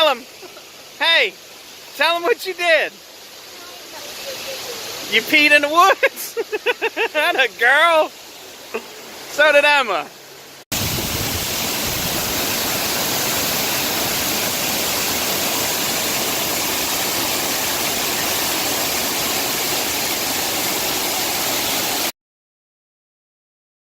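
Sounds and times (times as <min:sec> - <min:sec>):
waterfall rushing: 0:00.0 - 0:22.1.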